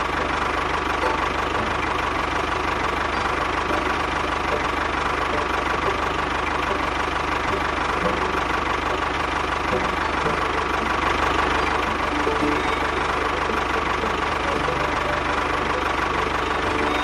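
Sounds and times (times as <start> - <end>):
engine idling with whine: 0.0 - 17.0.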